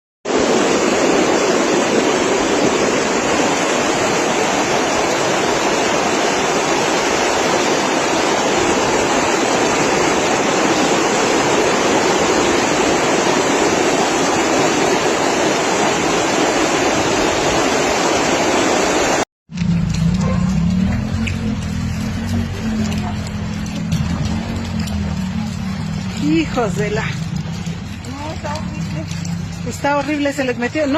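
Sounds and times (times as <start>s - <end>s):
floodwater rushing down a street: 0.3s - 30.9s.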